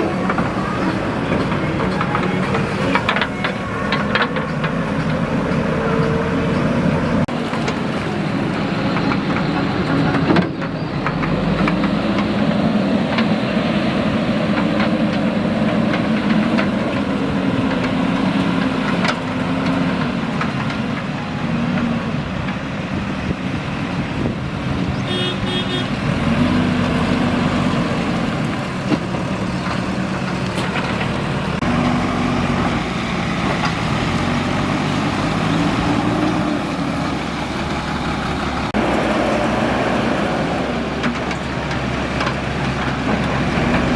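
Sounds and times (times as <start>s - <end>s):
backhoe diesel engine revving: 0.0s - 43.9s.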